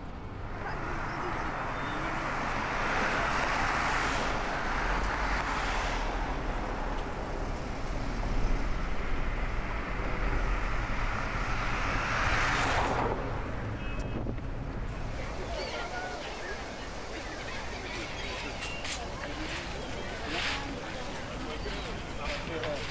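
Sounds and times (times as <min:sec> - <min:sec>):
cars driving past: 0:00.0 - 0:22.9
low traffic rumble: 0:00.0 - 0:22.9.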